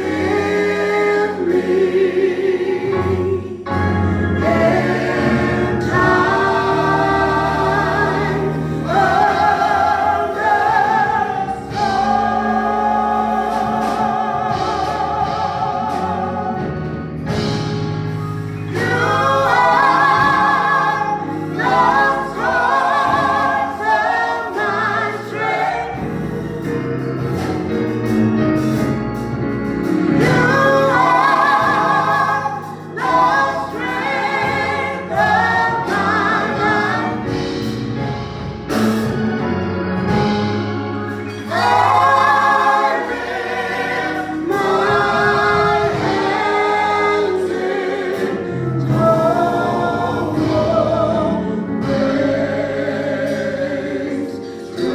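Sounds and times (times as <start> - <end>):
gospel choir singing: 0.0 - 54.9
instrumental accompaniment: 0.0 - 54.9.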